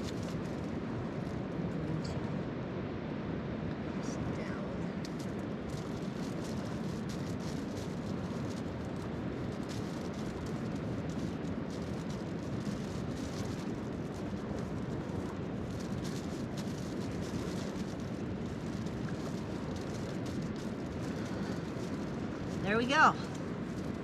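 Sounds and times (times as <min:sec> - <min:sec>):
faint crackles of patch: 0:00.0 - 0:02.1, 0:05.0 - 0:24.0.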